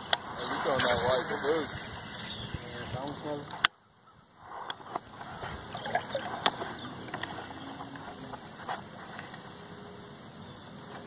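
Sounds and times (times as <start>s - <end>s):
water noise: 0.0s - 3.7s, 4.8s - 11.0s
wind: 0.0s - 11.0s.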